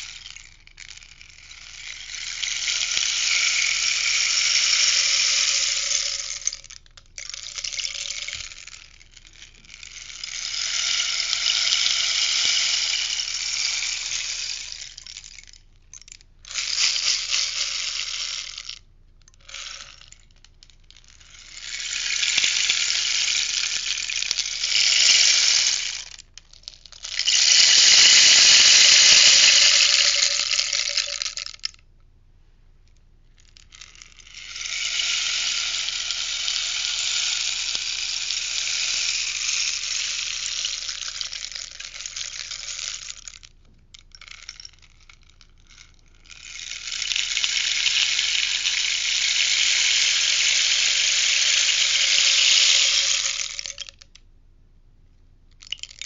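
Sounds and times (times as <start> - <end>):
rainstick beads trickling: 0.0 - 31.8, 33.3 - 54.2, 55.6 - 56.0.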